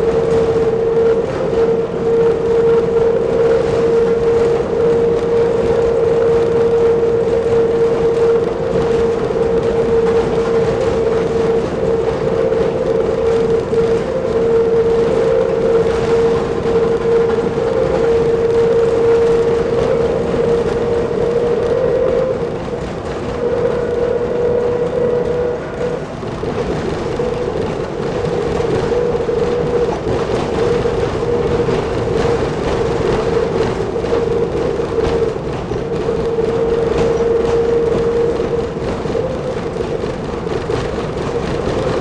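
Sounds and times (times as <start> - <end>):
diesel rail bus running: 0.0 - 42.0.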